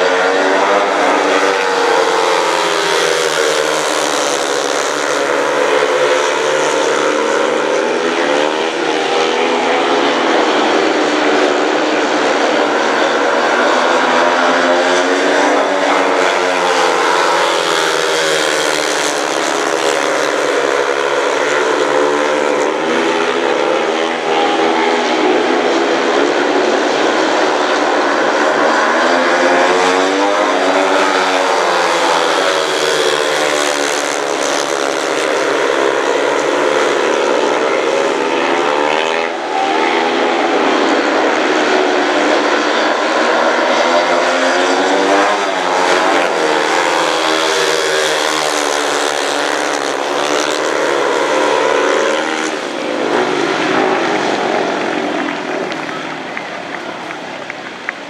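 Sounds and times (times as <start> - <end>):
motorcycles racing and revving: 0.0 - 58.0.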